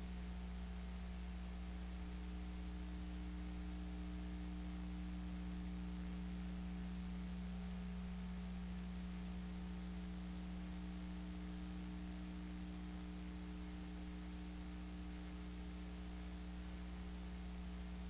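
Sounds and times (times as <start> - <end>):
electrical mains hum: 0.0 - 18.0
tape hiss: 0.0 - 18.0.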